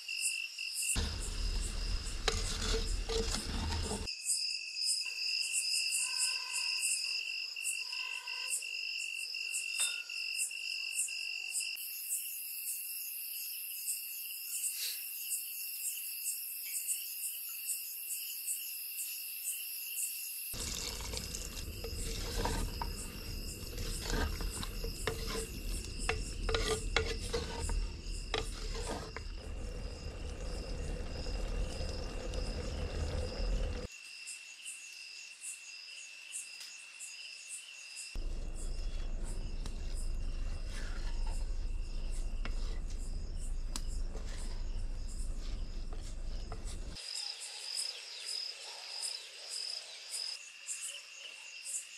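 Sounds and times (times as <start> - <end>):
crickets chirping: 0.0 - 51.9.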